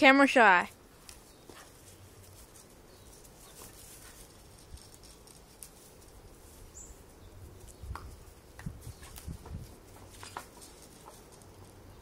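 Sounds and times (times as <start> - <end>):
dog scuffling: 0.7 - 6.7, 7.6 - 11.9.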